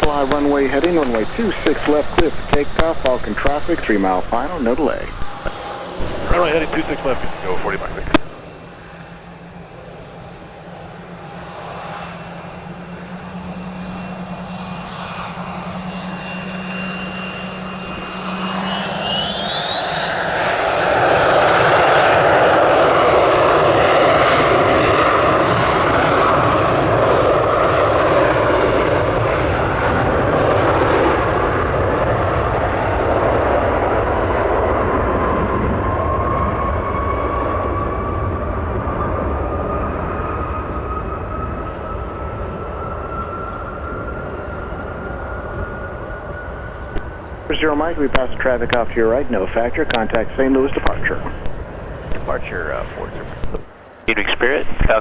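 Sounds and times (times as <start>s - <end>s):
jet engines spooling up: 0.0s - 55.0s.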